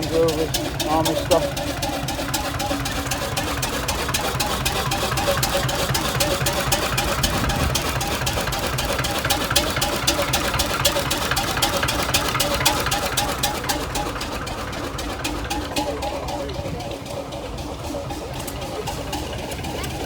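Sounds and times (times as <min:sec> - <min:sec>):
engine idling: 0:00.0 - 0:20.0
sharp rhythmic clicking: 0:00.0 - 0:20.0.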